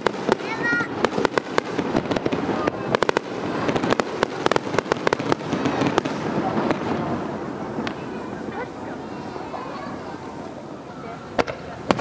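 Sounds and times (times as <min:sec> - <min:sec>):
fireworks bangs and crackles: 0:00.0 - 0:12.0
rumble of firework bursts: 0:00.0 - 0:12.0.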